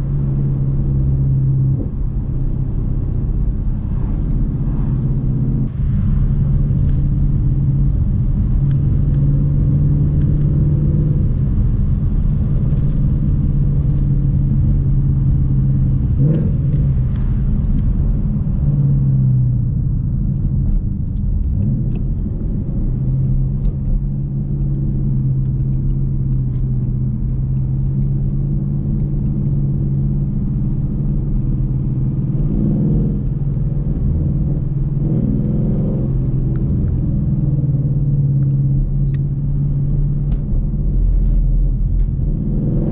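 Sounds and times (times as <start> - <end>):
car engine running: 0.0 - 42.9
road rumble: 0.0 - 42.9.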